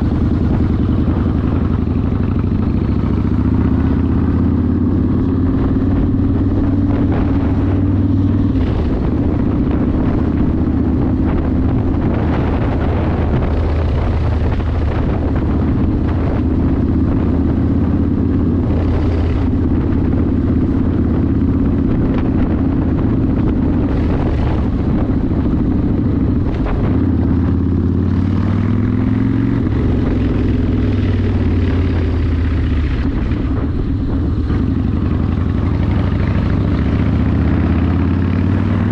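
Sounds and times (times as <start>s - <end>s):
motorcycle engine cruising: 0.0s - 38.9s
wind rush: 0.0s - 38.9s.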